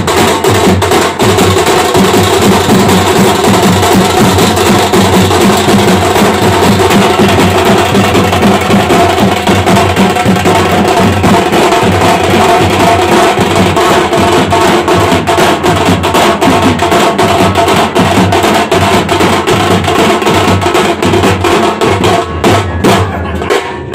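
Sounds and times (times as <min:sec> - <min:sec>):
steel drums beaten with sticks: 0:00.0 - 0:23.9.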